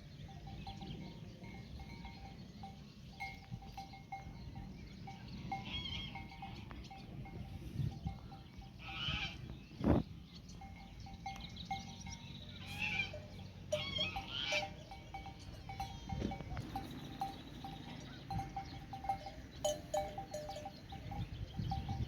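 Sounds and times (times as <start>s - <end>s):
neck bells clinking: 0.0s - 8.9s, 10.5s - 22.0s.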